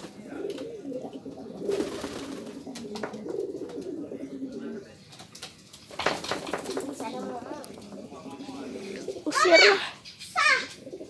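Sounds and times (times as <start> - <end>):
pigeon cooing: 0.0 - 5.0, 6.6 - 11.0.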